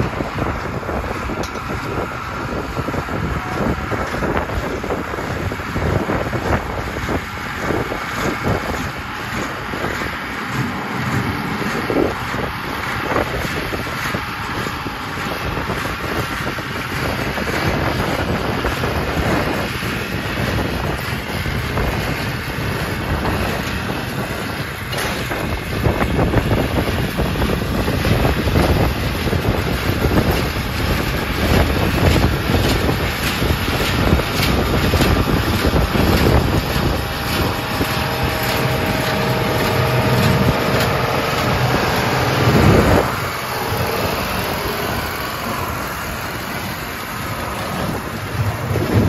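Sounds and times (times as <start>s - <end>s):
hay baler: 0.0s - 49.0s
tractor diesel engine under load: 0.0s - 49.0s
wind buffeting microphone: 0.0s - 49.0s.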